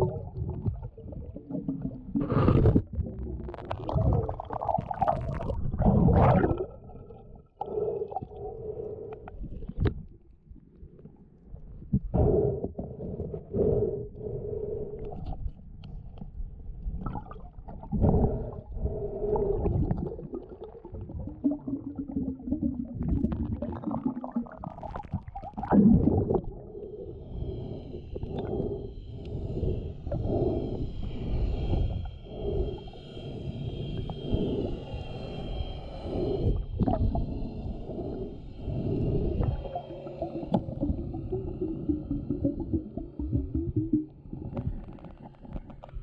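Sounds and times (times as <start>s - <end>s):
underwater gurgling: 0.0s - 10.2s, 16.9s - 46.0s.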